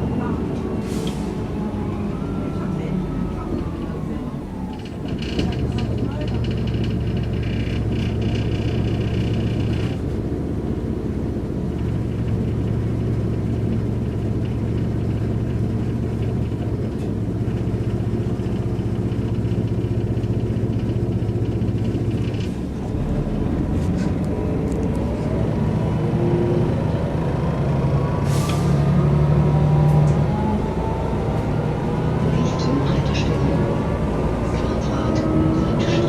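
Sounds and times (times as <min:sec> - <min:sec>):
bus diesel engine: 0:00.0 - 0:36.0.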